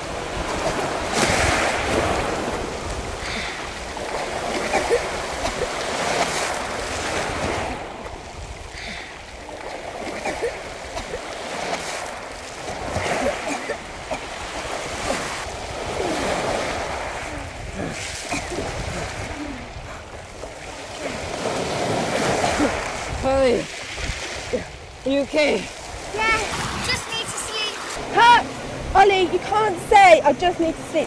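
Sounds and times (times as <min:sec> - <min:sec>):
people splashing in water: 0:00.0 - 0:24.8, 0:25.4 - 0:30.3
waves washing over pebbles: 0:00.0 - 0:31.0.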